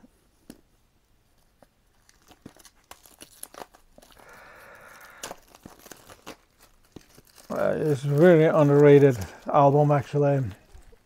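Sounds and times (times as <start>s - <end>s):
shrink wrap crackling and tearing: 1.4s - 11.0s.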